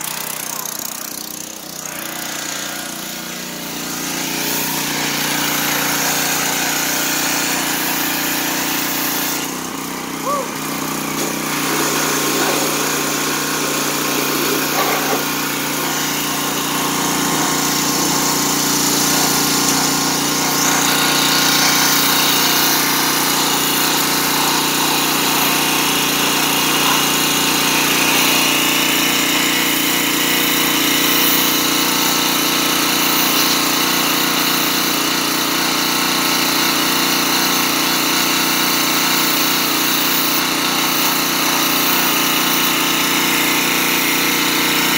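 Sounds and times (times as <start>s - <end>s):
high-pressure water jet spraying: 0.0s - 44.9s
small gas engine running: 0.0s - 44.9s.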